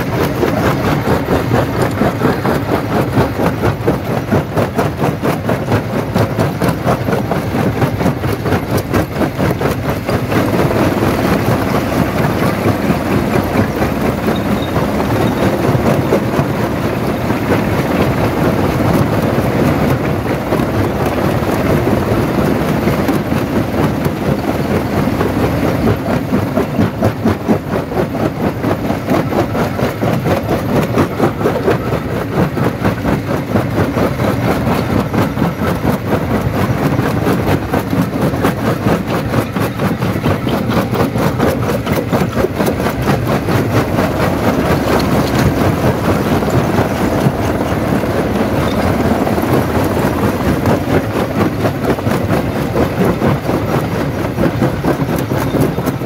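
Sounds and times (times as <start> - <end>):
machine rumble: 0.0 - 56.0.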